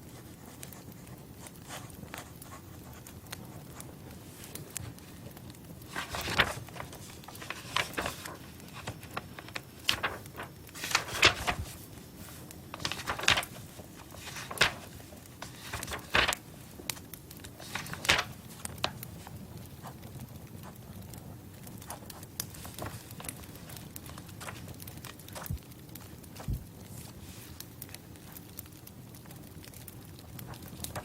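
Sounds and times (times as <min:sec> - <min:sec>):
sharp clicks and crackles: 0:00.5 - 0:31.0.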